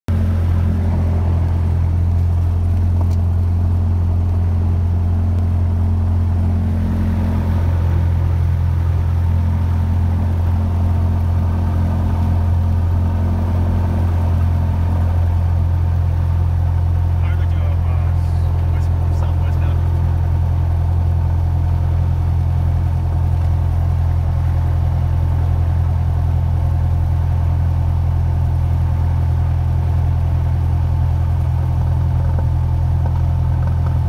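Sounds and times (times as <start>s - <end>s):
propeller plane engine drone: 0.1s - 34.0s.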